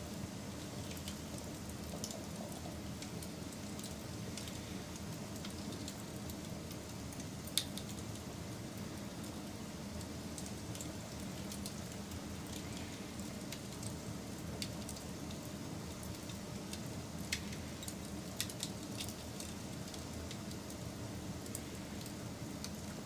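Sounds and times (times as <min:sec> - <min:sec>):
fire crackles and pops: 0:00.0 - 0:23.0.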